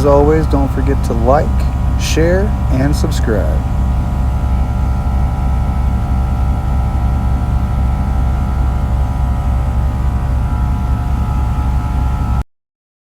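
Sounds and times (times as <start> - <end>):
engine pulsing rumble: 0.0 - 12.4
steady whine: 0.0 - 12.4.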